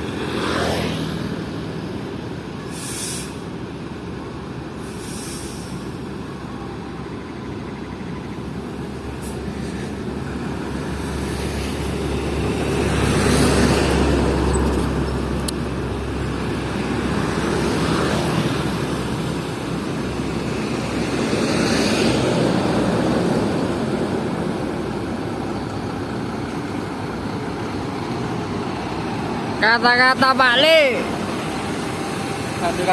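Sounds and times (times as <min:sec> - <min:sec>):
road noise: 0:00.0 - 0:32.9
truck diesel engine: 0:01.3 - 0:32.9.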